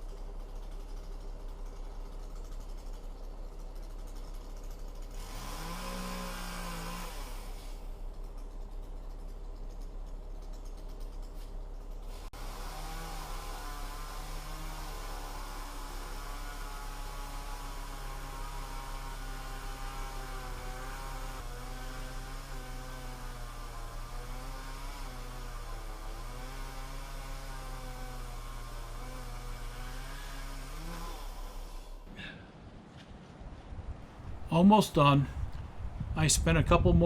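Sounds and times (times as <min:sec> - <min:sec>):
chainsaw engine running: 0:00.0 - 0:32.4.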